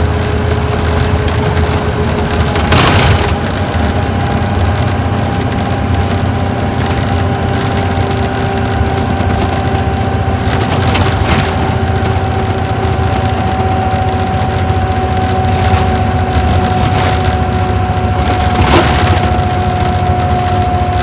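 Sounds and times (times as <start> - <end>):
diesel coach engine running: 0.0 - 21.0
clicking and rattling: 0.1 - 21.0.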